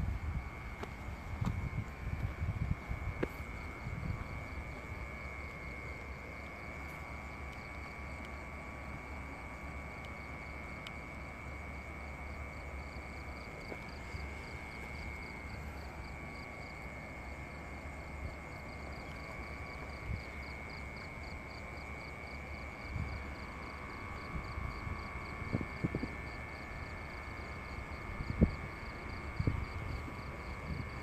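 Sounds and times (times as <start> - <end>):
insects trilling: 0.0 - 31.0
pulsing insect chirp: 0.0 - 31.0.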